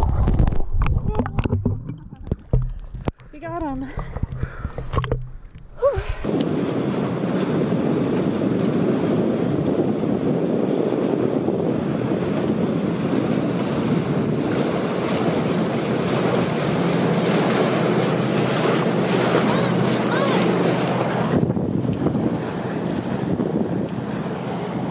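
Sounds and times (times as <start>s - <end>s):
water streaming past hull: 0.0s - 24.9s
wind on microphone: 0.0s - 24.9s.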